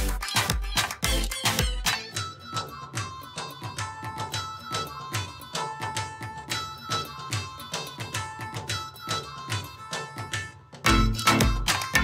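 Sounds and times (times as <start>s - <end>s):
instrumental music with percussive beat: 0.0s - 12.0s.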